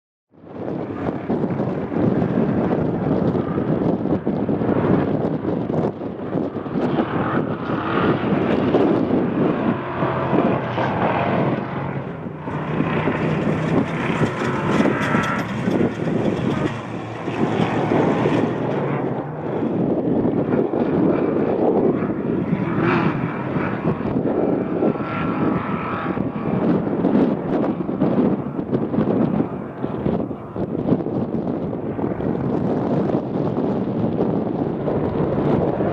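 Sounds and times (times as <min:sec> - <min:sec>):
race truck engine running hard: 0:00.4 - 0:35.9.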